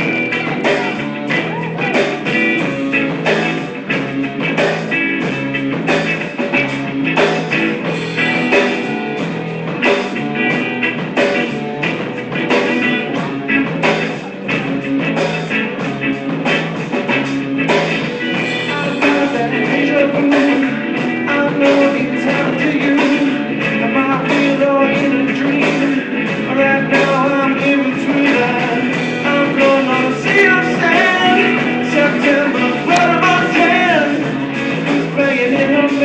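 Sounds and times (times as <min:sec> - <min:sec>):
guitar strumming: 0:00.0 - 0:36.0.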